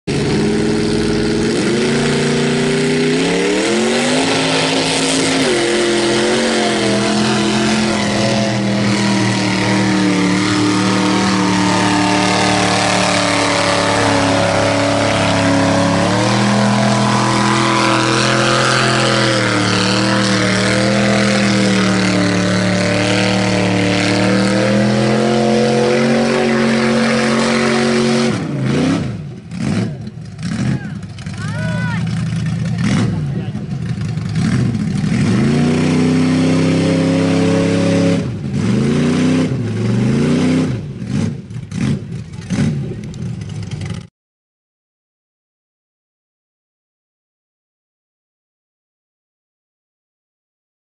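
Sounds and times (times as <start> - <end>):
truck engine revving: 0.0 - 44.1.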